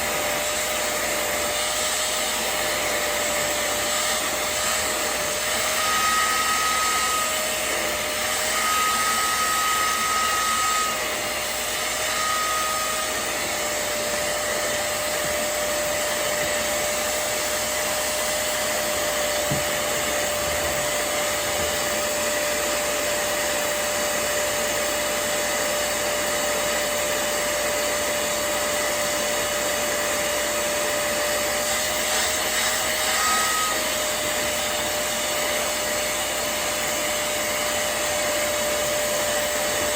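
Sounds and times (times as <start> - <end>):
spot cleaner suction motor whine: 0.0 - 39.9.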